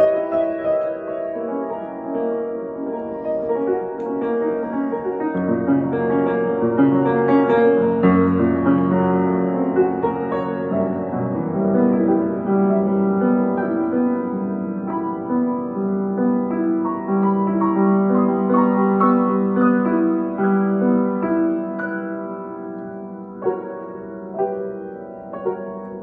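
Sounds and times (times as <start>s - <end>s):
upright piano playing: 0.0s - 26.0s.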